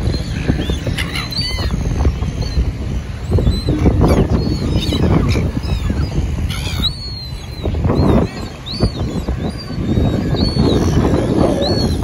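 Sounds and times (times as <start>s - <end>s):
high bird calls: 0.0s - 12.0s
wind on microphone: 0.0s - 12.0s.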